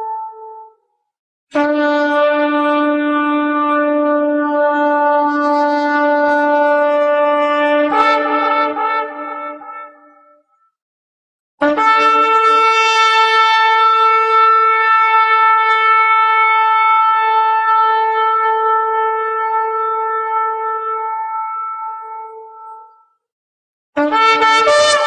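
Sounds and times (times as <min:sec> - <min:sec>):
shofar long steady blast: 0:01.6 - 0:10.0, 0:11.6 - 0:22.8, 0:24.0 - 0:25.0.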